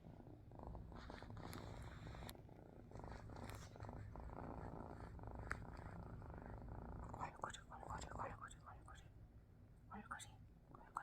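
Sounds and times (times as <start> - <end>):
kitten purring: 0.0 - 9.2.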